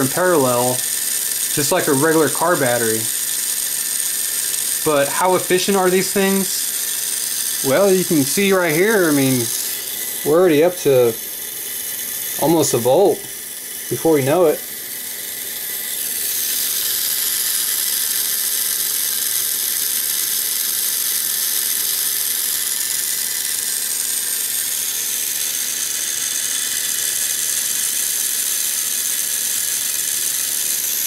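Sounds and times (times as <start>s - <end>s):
small blower fan whirring: 0.0s - 31.0s.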